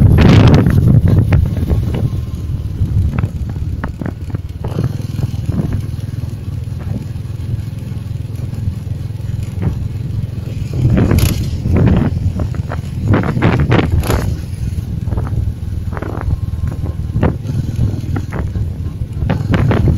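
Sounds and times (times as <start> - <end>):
vehicle engine and tyres rumbling: 0.0 - 19.9.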